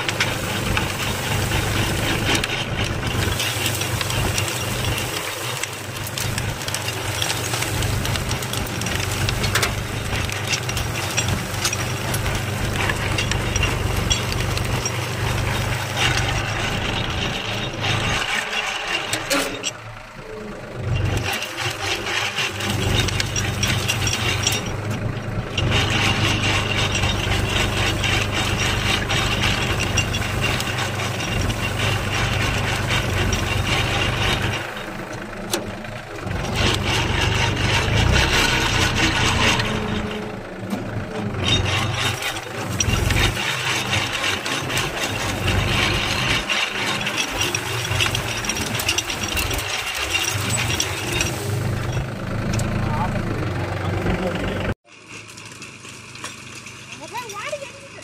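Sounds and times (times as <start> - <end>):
implement frame rattling: 0.0 - 58.0
tractor engine running: 0.0 - 58.0.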